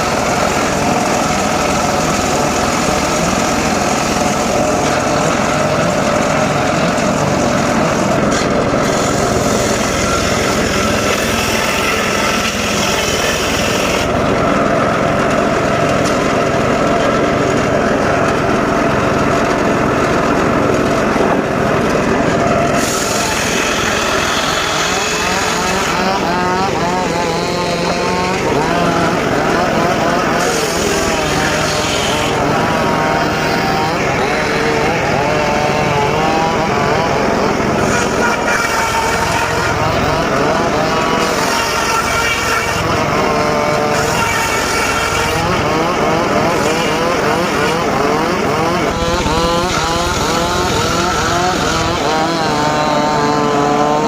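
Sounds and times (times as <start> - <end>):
circular saw cutting wood: 0.0 - 54.0.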